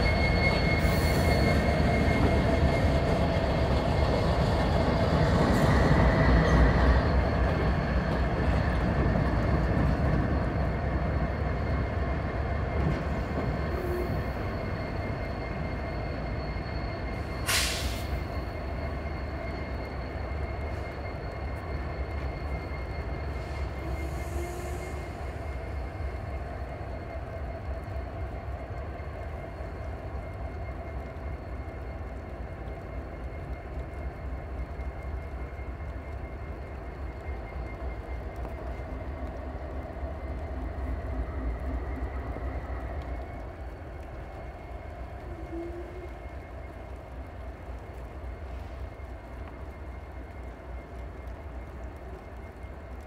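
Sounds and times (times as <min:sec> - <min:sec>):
diesel locomotive engine rumble: 0:00.0 - 0:53.0.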